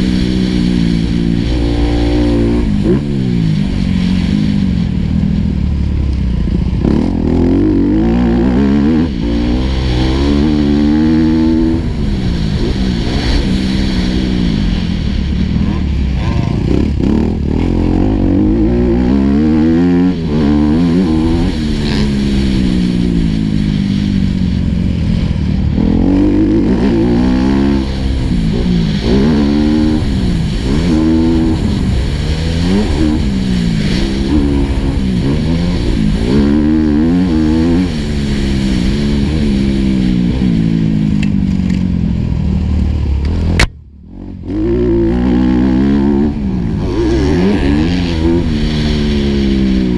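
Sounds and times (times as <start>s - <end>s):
motocross bike engine revving: 0.0s - 5.2s, 6.5s - 41.6s, 43.2s - 49.9s.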